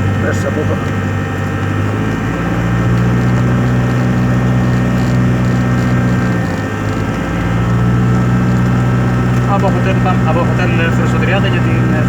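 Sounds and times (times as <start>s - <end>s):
airplane engine and propeller: 0.0s - 12.0s.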